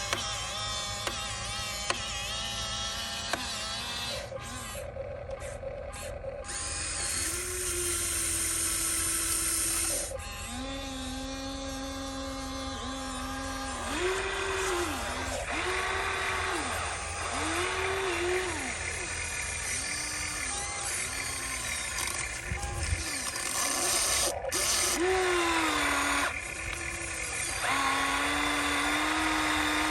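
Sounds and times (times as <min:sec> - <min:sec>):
small electric motors whining: 0:00.0 - 0:29.9.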